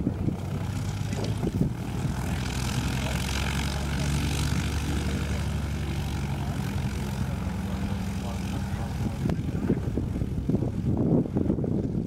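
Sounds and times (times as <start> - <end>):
light aircraft engine and propeller: 0.0 - 12.0.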